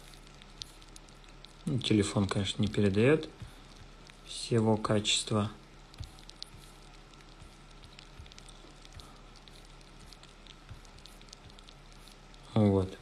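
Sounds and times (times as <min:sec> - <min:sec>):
small ticks and crackles: 0:00.0 - 0:13.0
soft hiss: 0:00.0 - 0:13.0
steady low hum: 0:00.0 - 0:13.0.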